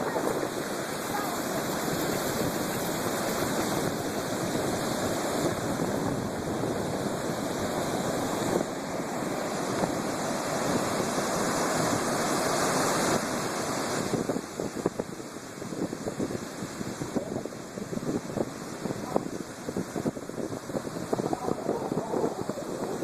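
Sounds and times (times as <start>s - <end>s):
storm surf waves breaking: 0.0s - 23.0s.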